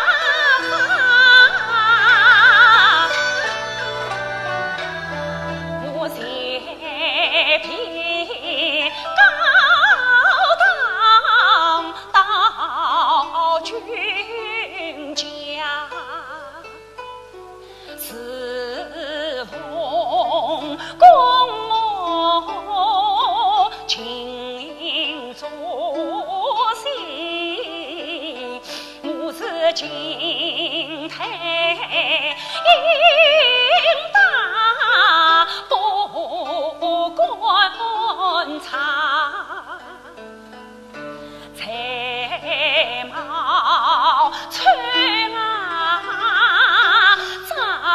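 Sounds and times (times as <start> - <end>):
woman singing opera aria: 0.0 - 16.7, 17.9 - 40.2, 41.4 - 47.9
traditional instrumental accompaniment: 0.0 - 47.9.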